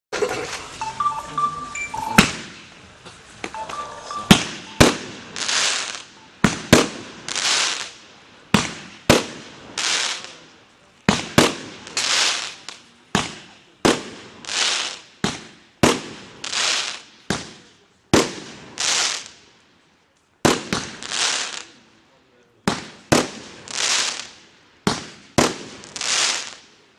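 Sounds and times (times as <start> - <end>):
firework shots banging: 2.2 - 3.6, 4.2 - 19.4, 20.4 - 21.7, 22.6 - 26.7.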